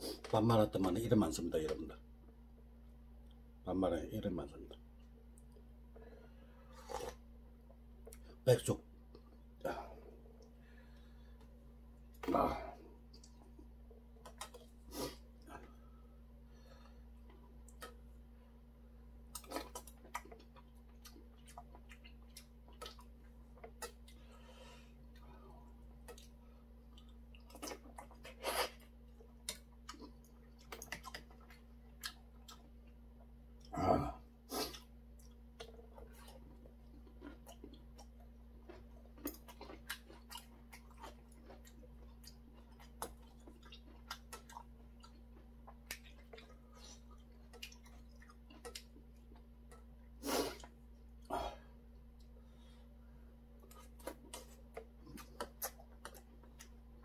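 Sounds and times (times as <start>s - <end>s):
person chewing: 6.6s - 8.4s, 9.1s - 16.0s, 16.8s - 18.2s, 19.2s - 52.8s, 53.6s - 57.0s.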